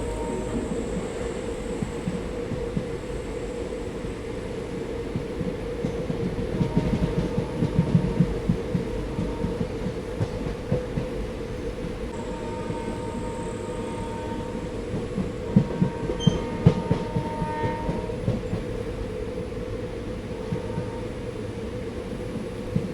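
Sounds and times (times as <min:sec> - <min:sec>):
train wheels rumbling on rails: 0:00.0 - 0:22.9.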